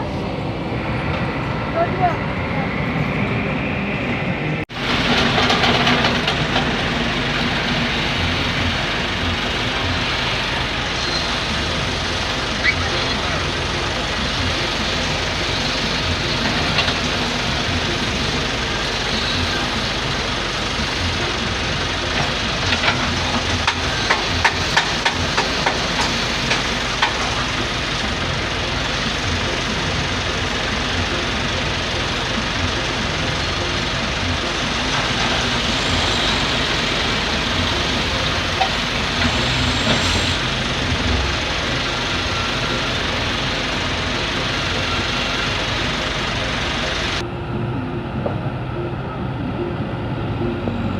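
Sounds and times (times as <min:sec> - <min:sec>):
diesel engines running under load: 0:00.0 - 0:50.9.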